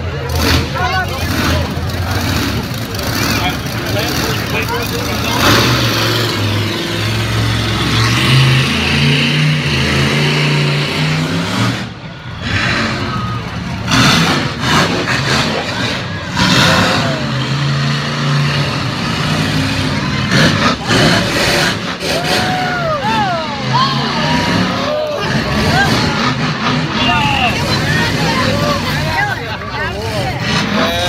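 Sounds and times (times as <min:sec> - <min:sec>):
monster truck engine revving: 0:00.0 - 0:31.0.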